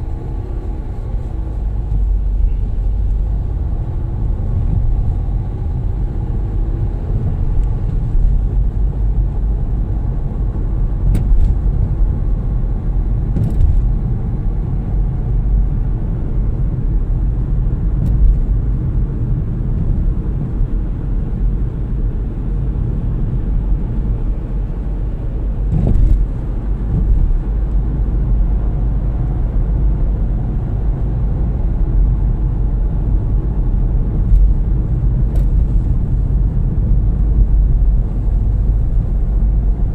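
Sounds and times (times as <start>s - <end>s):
road and engine rumble in car: 0.0s - 39.9s.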